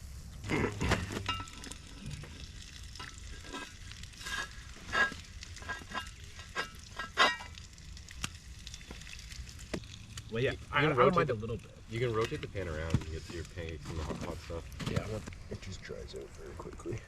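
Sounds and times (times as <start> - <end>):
pancakes sizzling in a pan: 0.0 - 13.7
crackles and pops: 0.0 - 17.0.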